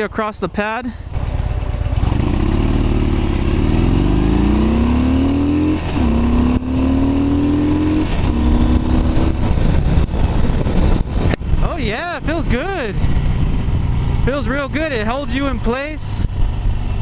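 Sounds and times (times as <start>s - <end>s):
motorcycle engine accelerating: 1.1s - 17.0s.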